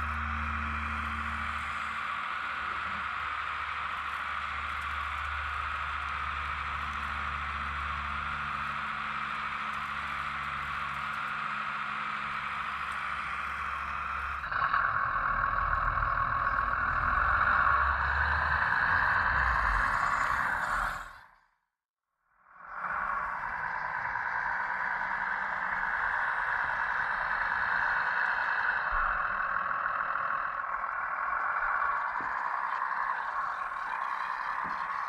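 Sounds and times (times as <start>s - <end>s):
hydraulic pump whine and hum: 0.0s - 21.3s, 22.4s - 35.0s.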